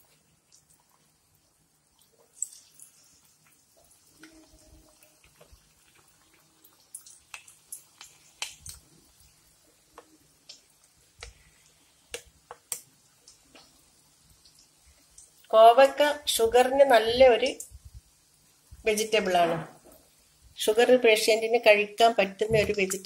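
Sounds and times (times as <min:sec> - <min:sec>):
deep-frying crackles and pops: 0:00.0 - 0:23.0.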